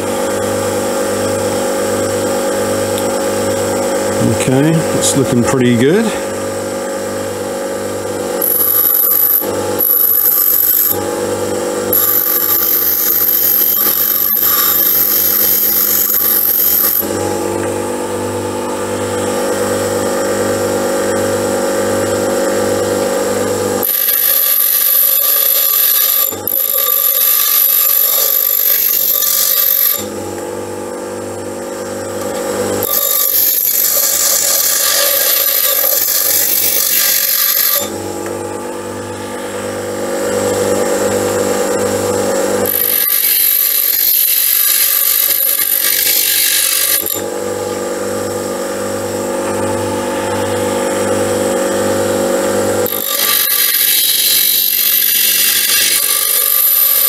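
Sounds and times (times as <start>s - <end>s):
bench grinder humming: 0.0s - 57.0s.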